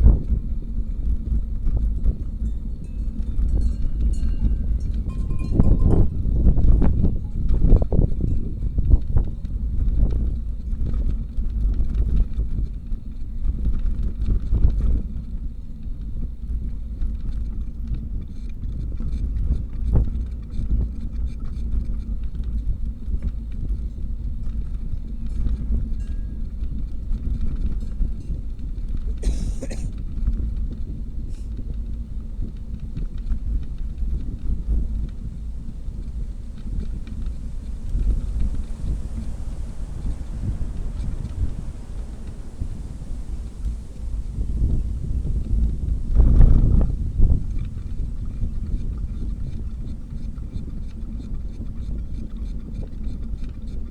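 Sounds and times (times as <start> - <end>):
wind rumble on microphone: 0.0 - 53.9.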